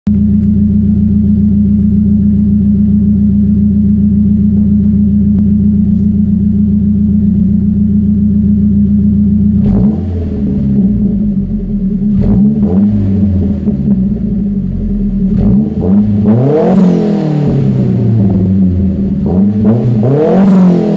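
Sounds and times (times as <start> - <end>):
car engine running and revving: 0.1 - 20.9.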